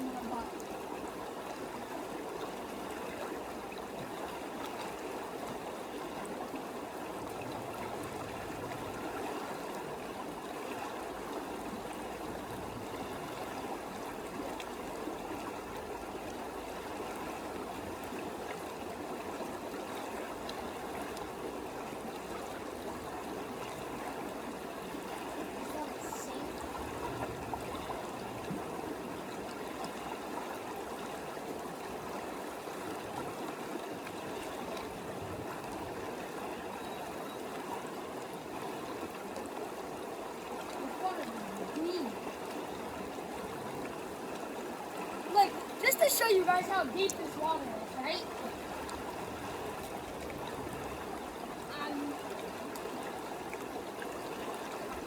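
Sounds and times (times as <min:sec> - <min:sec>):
creek water rushing: 0:00.0 - 0:55.0.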